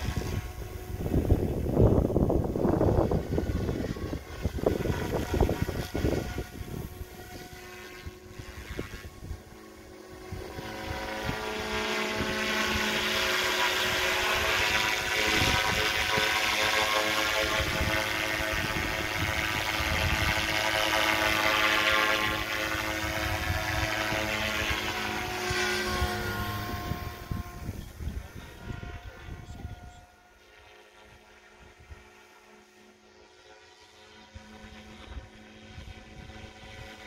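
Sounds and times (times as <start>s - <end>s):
wind buffeting microphone: 0.0s - 30.1s
model helicopter motor and rotor whine: 0.0s - 37.0s.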